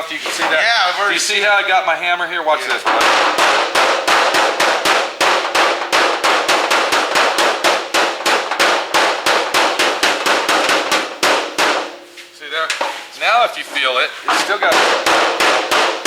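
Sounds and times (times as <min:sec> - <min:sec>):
hammer tapping sheet metal: 0:02.5 - 0:16.0.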